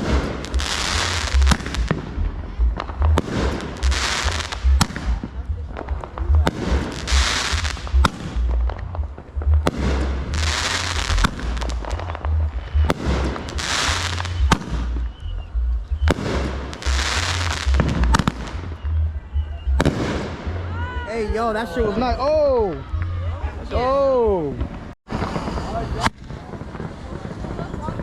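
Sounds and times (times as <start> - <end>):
crackling hiss of fireworks: 0.0 - 15.4, 16.0 - 20.6, 24.7 - 28.0
fireworks banging: 0.0 - 21.0, 24.6 - 28.0.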